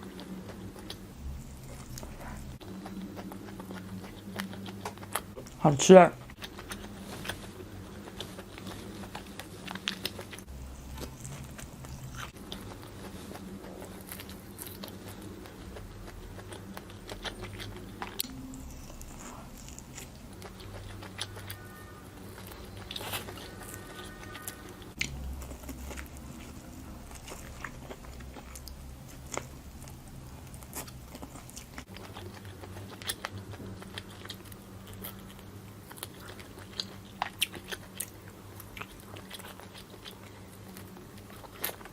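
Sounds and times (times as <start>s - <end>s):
close chewing and crunching: 0.0s - 41.9s.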